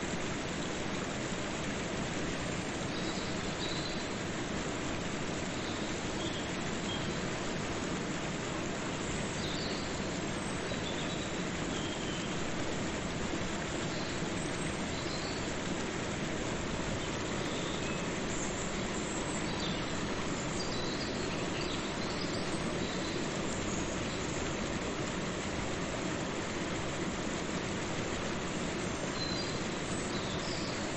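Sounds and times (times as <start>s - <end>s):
waterfall and river rushing: 0.0s - 30.9s.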